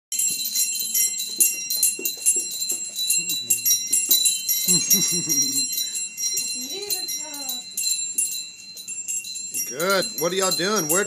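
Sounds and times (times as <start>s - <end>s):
small bells shaking: 0.1s - 11.0s.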